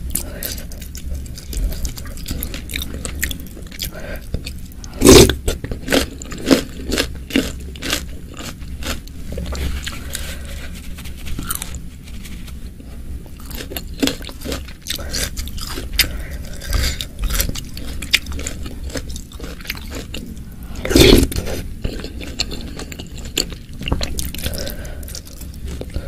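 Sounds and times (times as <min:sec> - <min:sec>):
crunchy chewing clicks: 0:00.1 - 0:10.0, 0:13.3 - 0:26.0.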